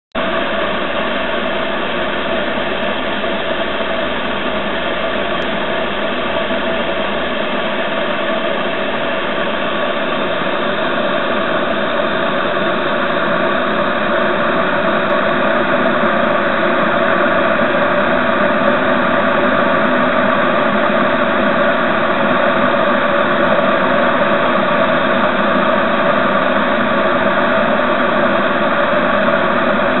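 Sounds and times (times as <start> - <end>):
water rushing through radiator: 0.2 - 30.0.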